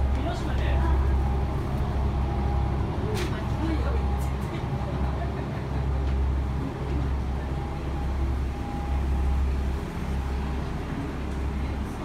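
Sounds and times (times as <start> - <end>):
diesel engine idling hum: 0.0 - 12.0.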